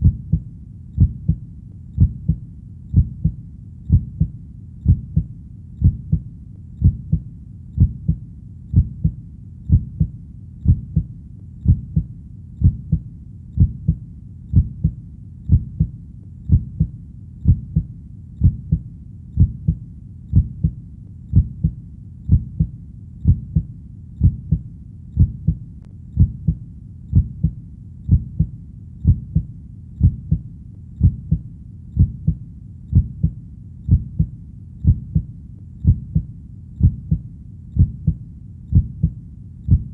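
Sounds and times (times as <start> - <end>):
heartbeat thuds: 0.0 - 1.4, 2.0 - 39.9.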